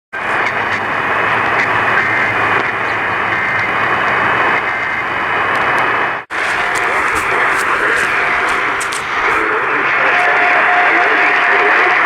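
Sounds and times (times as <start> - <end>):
radio static hiss: 0.2 - 12.0.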